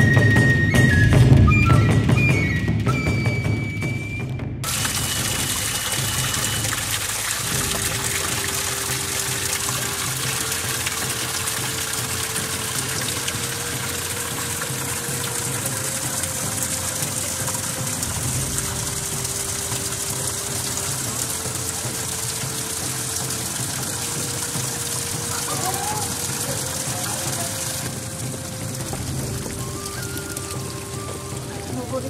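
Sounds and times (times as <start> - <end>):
water rushing: 0.0 - 4.0, 4.6 - 32.0
music: 0.0 - 32.0.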